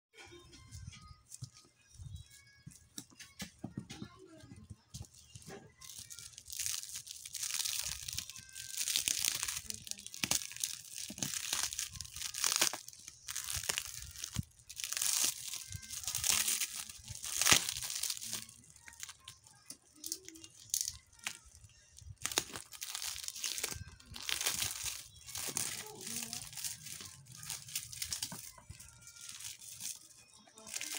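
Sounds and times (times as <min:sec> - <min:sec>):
plastic wrapping crinkling and tearing: 0:05.0 - 0:30.9.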